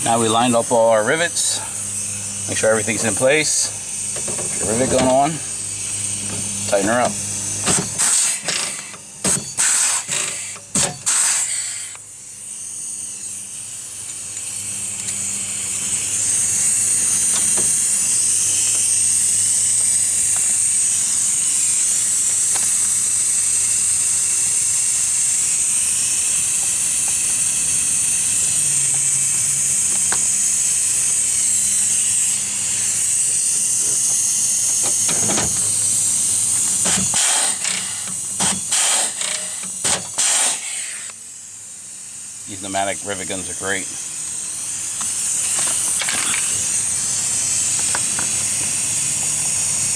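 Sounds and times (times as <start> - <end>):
pneumatic rivet gun hissing: 3.0 - 49.9.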